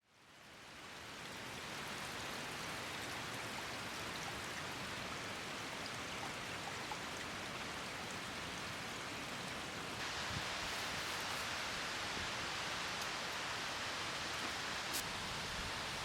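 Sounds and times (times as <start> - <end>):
light rain hiss: 0.0 - 16.0.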